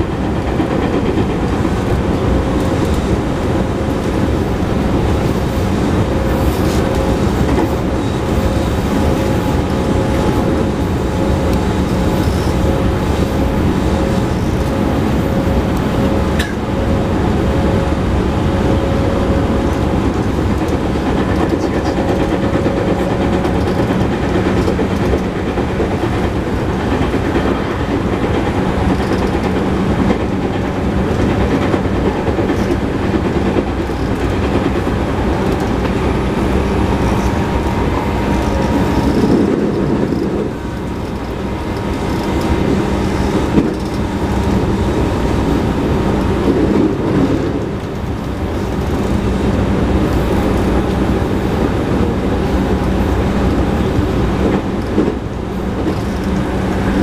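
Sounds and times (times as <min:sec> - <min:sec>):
rail clatter: 0:00.0 - 0:57.0
train wheels and motors rumbling: 0:00.0 - 0:57.0.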